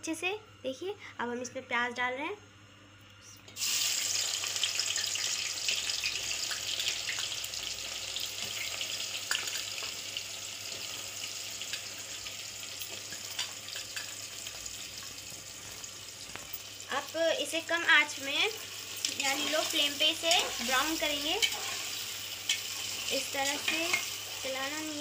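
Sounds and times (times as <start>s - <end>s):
onions sizzling in hot oil: 3.6s - 25.0s.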